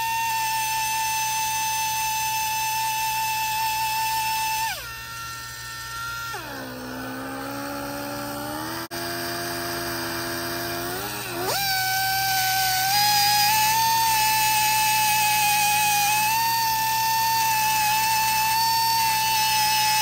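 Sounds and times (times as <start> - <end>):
grinder motor whining: 0.0 - 20.0.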